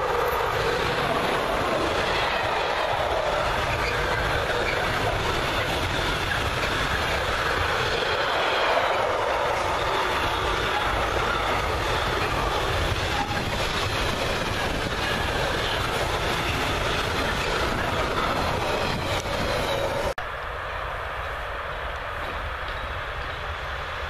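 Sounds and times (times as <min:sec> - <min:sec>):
freight train passing: 0:00.0 - 0:24.0
wheels on rails: 0:00.0 - 0:24.0.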